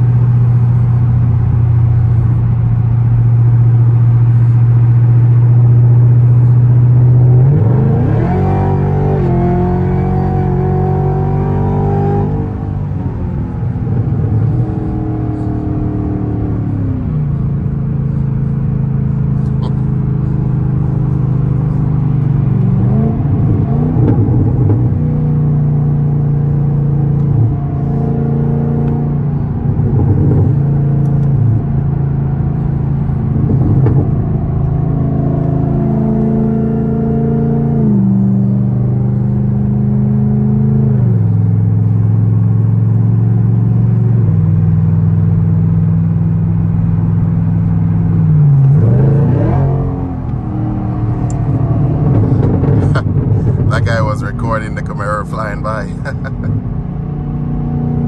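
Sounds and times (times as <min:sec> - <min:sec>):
car engine droning in cabin: 0:00.0 - 0:58.0.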